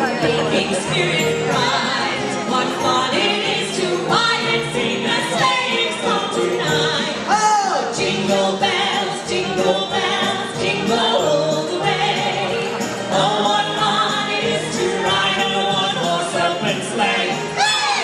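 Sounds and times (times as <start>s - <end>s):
backing music: 0.0s - 18.0s.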